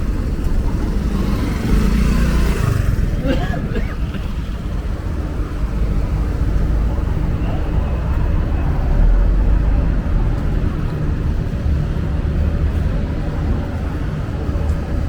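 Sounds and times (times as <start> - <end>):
city street rumble and hiss: 0.0 - 15.0.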